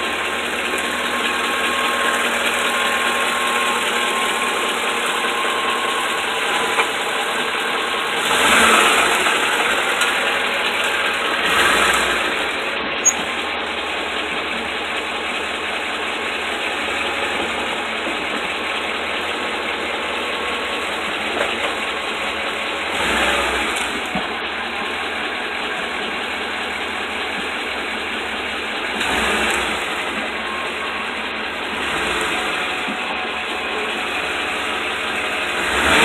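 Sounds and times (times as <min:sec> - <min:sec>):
pickup truck mechanical noise: 0:00.0 - 0:36.0.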